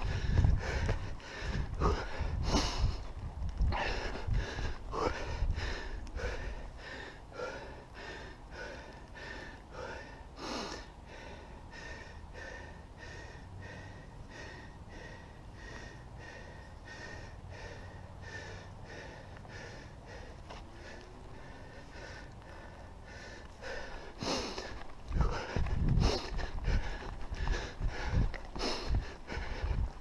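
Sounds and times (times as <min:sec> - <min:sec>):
person breathing hard: 0:00.0 - 0:30.0.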